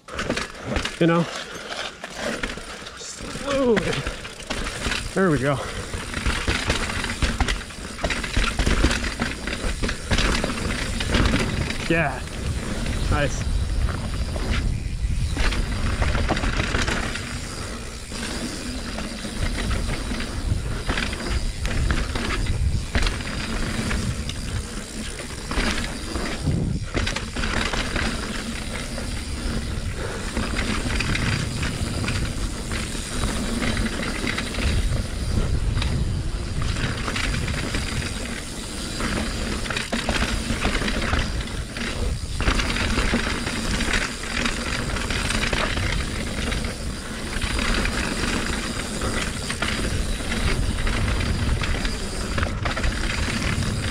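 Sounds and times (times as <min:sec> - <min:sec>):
bike rattling over bumps: 0:00.0 - 0:53.9
bike tyres rolling over dirt and rocks: 0:00.0 - 0:53.9.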